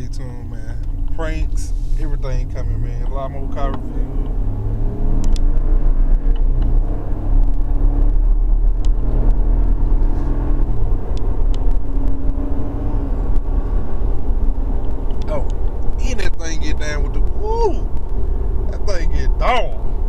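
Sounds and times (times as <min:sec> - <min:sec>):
pickup engine and road rumble: 0:00.0 - 0:20.0.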